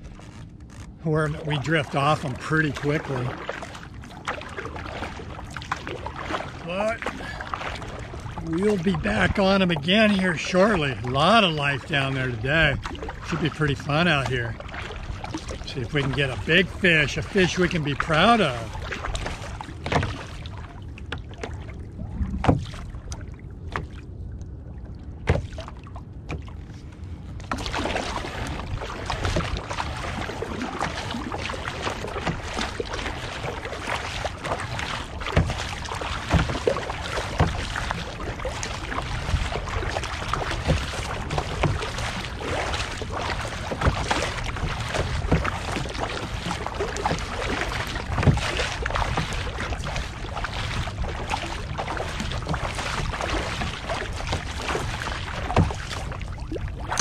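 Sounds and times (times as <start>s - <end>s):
paddle strokes splashing: 0.0s - 57.0s
water washing around kayak: 0.0s - 57.0s.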